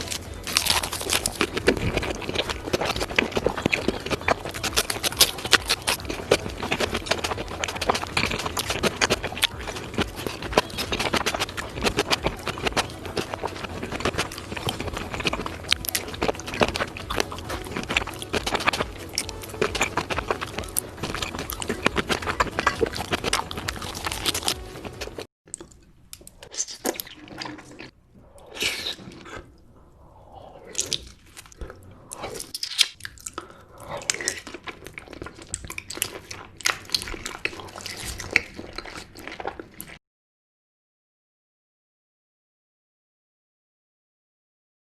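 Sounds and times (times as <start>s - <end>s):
wet chewing and mouth smacks: 0.0s - 29.7s, 30.3s - 40.0s.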